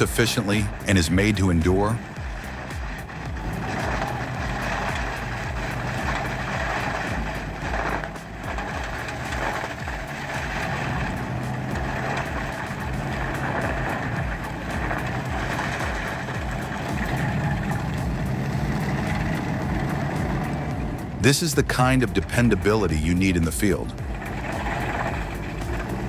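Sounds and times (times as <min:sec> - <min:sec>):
diesel engine working: 0:00.0 - 0:26.0
stump grinder grinding: 0:00.0 - 0:26.0.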